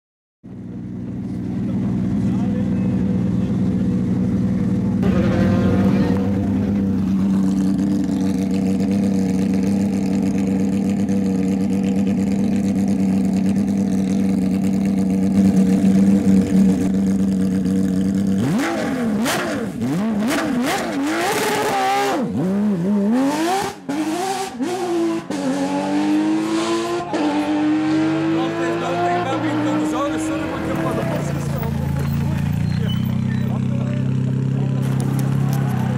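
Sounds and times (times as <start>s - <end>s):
engine droning steadily: 0.4s - 35.9s
rally car engine revving: 0.5s - 35.9s.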